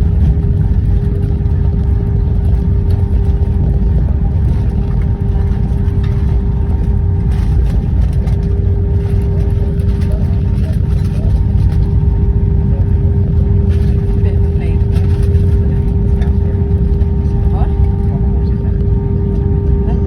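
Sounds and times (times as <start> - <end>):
low rumble of aircraft engines: 0.0 - 20.0
steady hum: 0.0 - 20.0.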